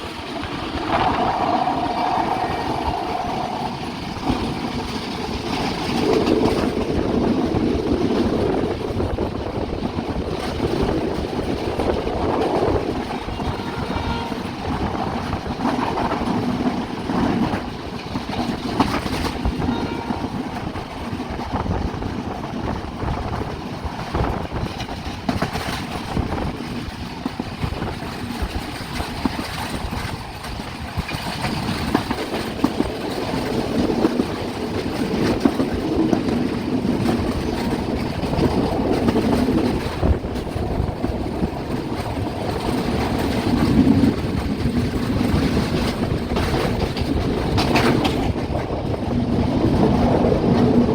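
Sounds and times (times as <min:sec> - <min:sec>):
sharp rail clacks: 0:00.0 - 0:50.9
train wheels rumbling: 0:00.0 - 0:50.9.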